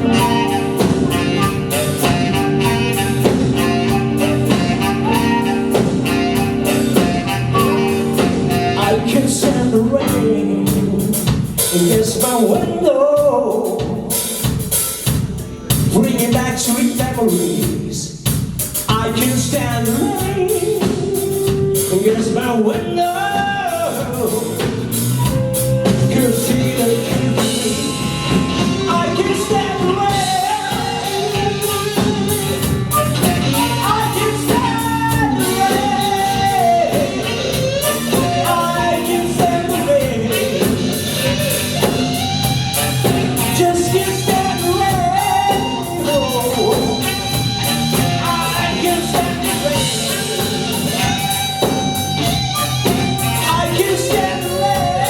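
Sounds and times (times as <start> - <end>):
electric guitar: 0.0 - 12.2, 19.1 - 55.0
person singing: 0.0 - 14.3, 18.9 - 55.0
drum kit: 0.0 - 55.0.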